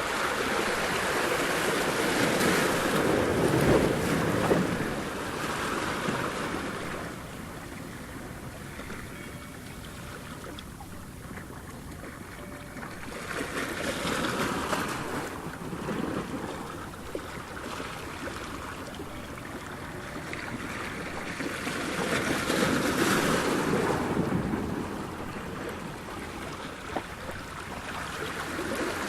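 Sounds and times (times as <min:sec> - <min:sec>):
waves breaking: 0:00.0 - 0:29.0.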